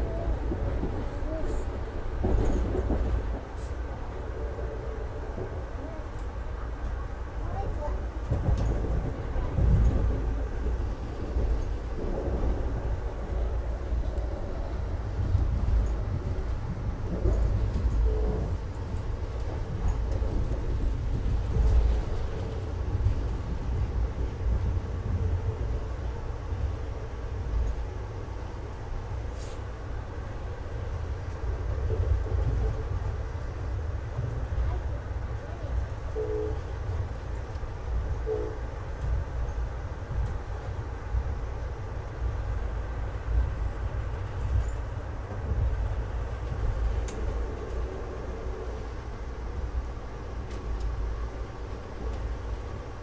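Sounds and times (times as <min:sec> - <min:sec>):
train rumble from inside: 0:00.0 - 0:53.0.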